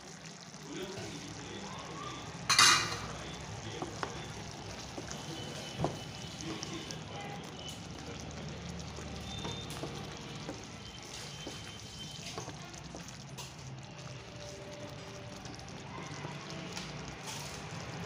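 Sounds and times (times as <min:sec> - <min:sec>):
curry sizzling in a pan: 0:00.0 - 0:18.0.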